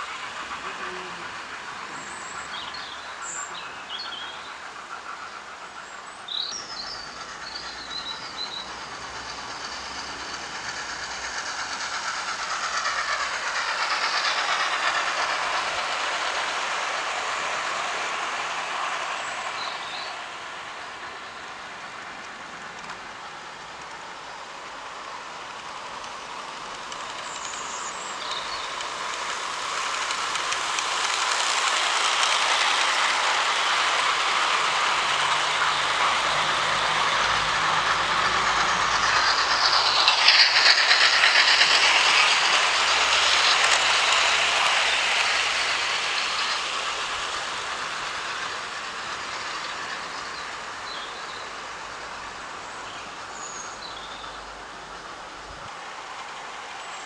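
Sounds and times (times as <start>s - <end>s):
model train wheels and motor: 0.0s - 57.0s.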